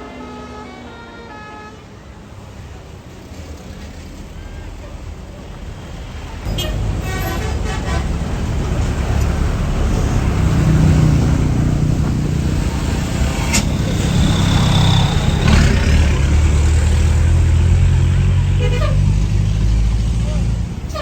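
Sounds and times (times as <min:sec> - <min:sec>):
bus diesel engine running: 0:02.0 - 0:21.0.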